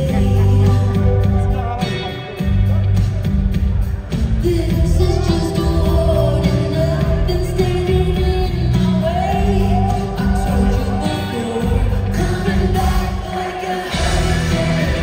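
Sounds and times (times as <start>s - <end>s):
woman singing lead: 0.0s - 2.5s, 4.1s - 15.0s
live pop band: 0.0s - 15.0s.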